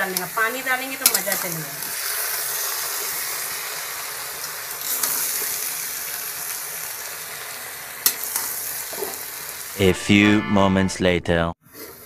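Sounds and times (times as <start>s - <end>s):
greens sizzling in a hot pot: 0.0s - 9.8s.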